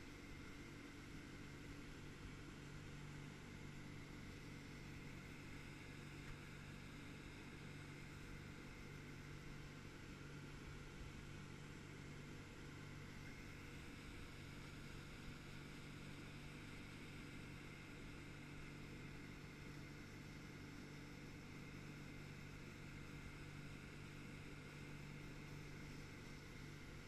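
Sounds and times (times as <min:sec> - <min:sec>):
boat engine drone: 0:00.0 - 0:27.0.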